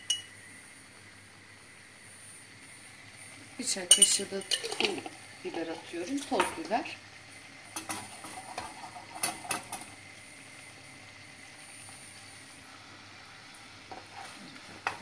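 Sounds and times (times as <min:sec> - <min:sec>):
oil hissing in pan: 0:00.0 - 0:15.0.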